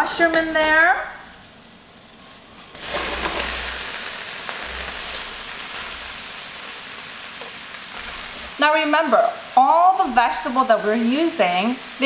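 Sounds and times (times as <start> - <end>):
mushrooms sizzling in skillet: 0.0 - 12.0.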